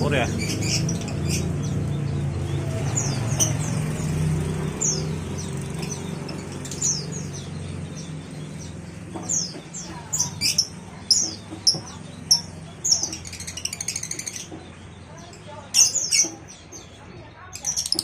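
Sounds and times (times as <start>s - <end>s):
small songbirds chirping: 0.0s - 18.0s.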